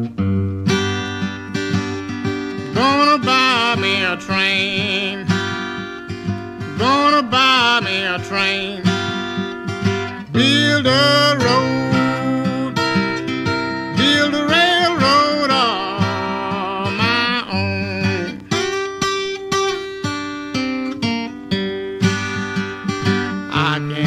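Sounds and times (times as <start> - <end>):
acoustic blues guitar: 0.0 - 24.0.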